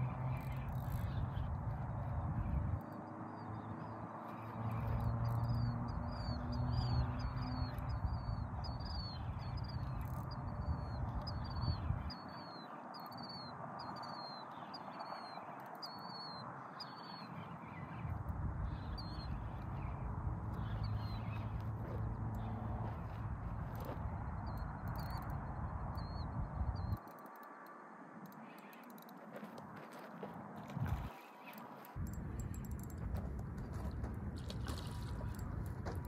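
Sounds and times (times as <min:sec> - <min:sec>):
wind rumble on microphone: 0:00.0 - 0:27.1, 0:29.3 - 0:36.0.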